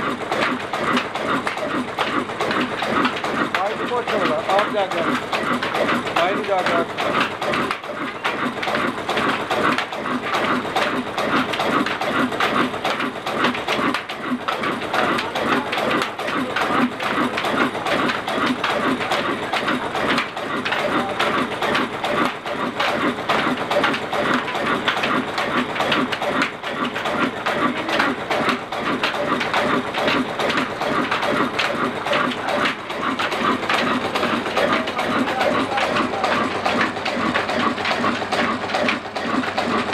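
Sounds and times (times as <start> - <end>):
diesel engine running rhythmically: 0.0 - 39.9.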